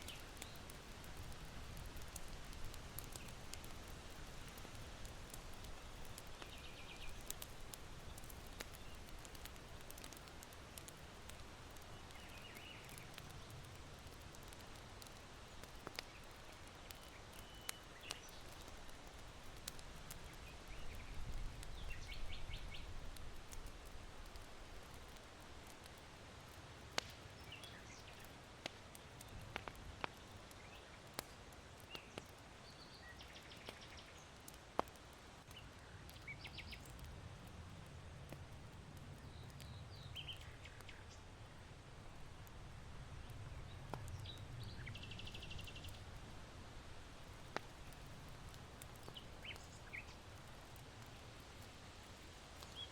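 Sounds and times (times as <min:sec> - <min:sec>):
charcoal fire crackling: 0:00.0 - 0:52.9.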